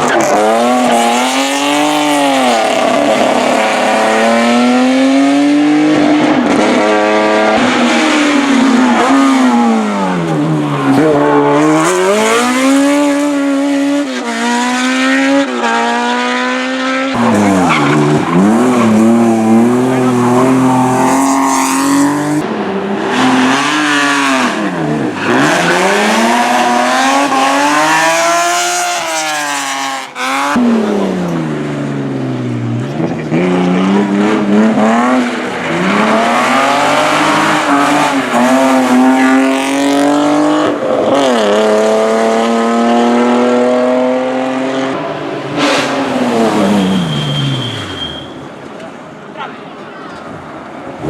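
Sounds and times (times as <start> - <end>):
racing car engine revving: 0.0 - 48.0.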